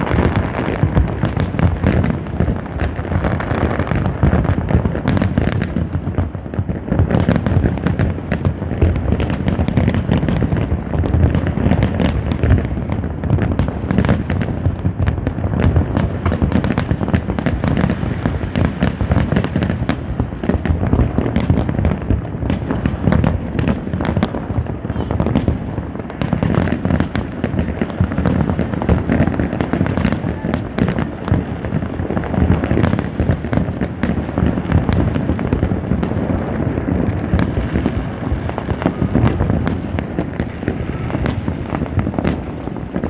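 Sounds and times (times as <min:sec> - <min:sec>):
fireworks bursts and crackling: 0:00.0 - 0:43.0.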